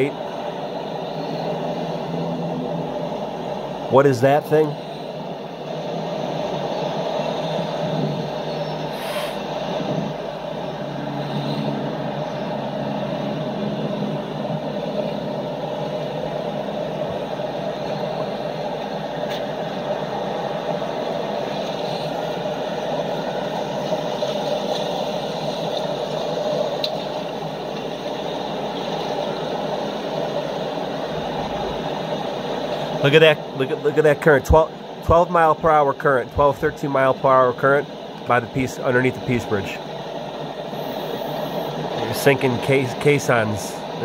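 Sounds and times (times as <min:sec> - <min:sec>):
river current rushing: 0:00.0 - 0:44.0.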